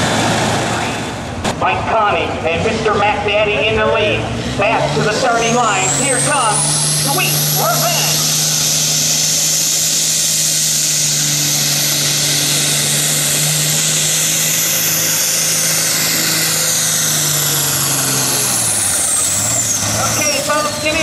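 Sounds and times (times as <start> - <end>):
diesel tractor engine under load: 0.0 - 21.0
turbo whine: 0.6 - 21.0.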